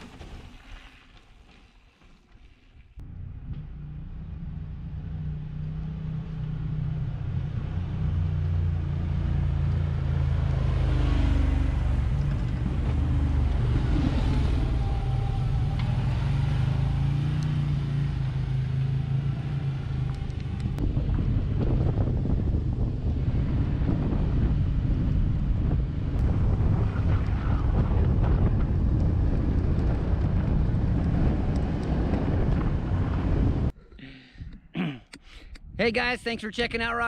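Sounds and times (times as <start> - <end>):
tyre and chassis rumble: 0.0 - 33.8
vehicle engine running: 3.0 - 33.7.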